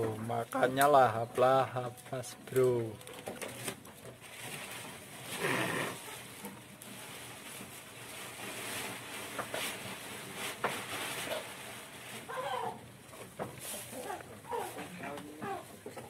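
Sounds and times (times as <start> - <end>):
goats chewing forage: 0.0 - 16.0.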